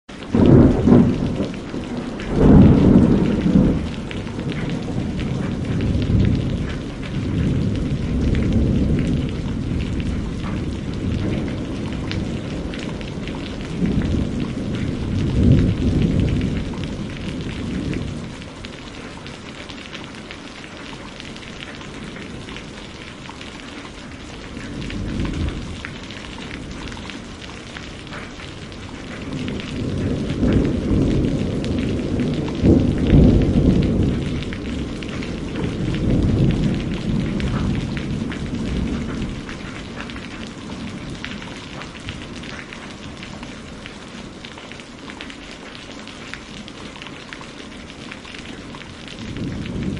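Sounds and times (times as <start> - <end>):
heavy rain: 0.0 - 49.9
rolling thunder: 0.2 - 19.4, 21.4 - 44.5, 47.8 - 49.9.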